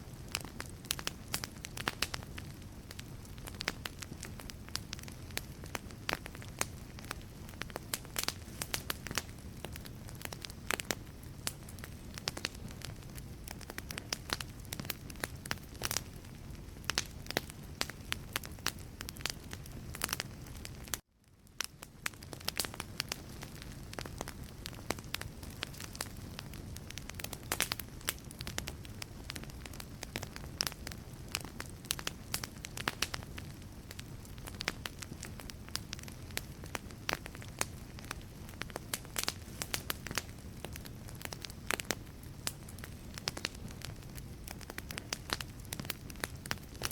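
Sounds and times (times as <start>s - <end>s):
logs crackling and popping: 0.0s - 46.9s
low rumble of flame: 0.0s - 46.9s.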